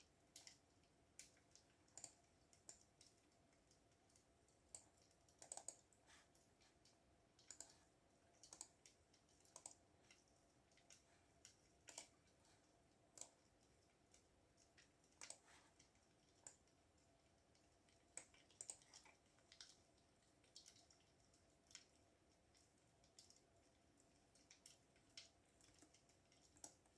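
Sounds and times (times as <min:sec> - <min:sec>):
faint keyboard typing: 0:00.0 - 0:26.9.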